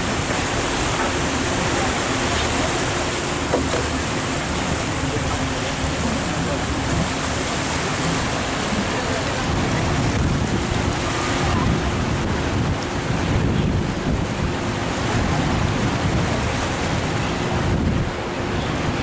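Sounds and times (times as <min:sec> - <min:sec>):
river water rushing: 0:00.0 - 0:19.0
wind buffeting microphone: 0:00.0 - 0:19.0.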